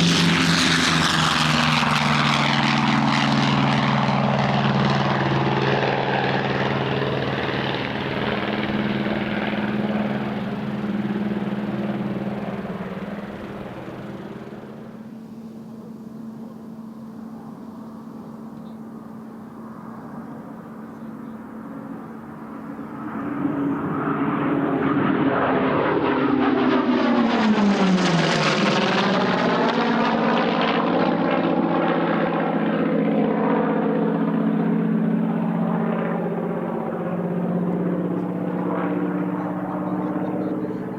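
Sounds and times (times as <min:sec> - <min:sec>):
aircraft radial engine passing: 0:00.0 - 0:40.9.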